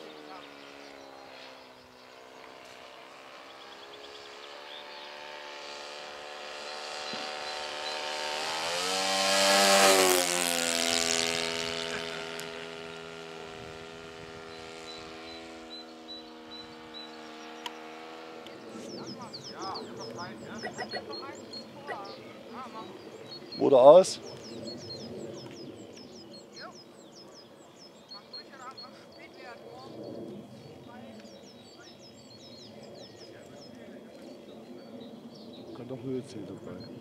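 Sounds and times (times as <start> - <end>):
model plane engine running: 0.0 - 37.0.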